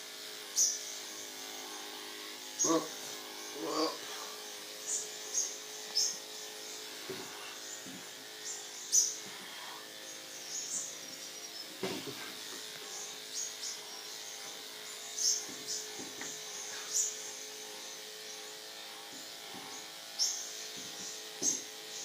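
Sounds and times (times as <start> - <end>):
electric dog clipper buzzing: 0.0 - 22.0.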